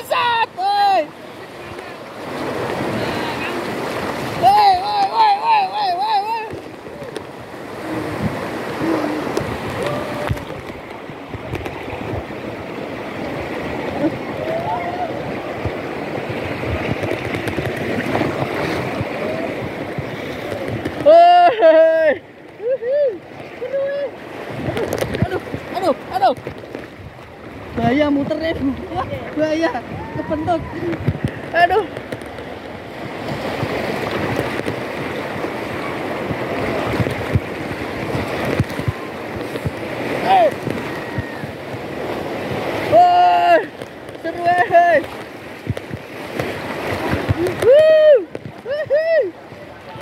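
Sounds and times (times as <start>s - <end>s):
water rushing over rocks: 0.0s - 50.0s.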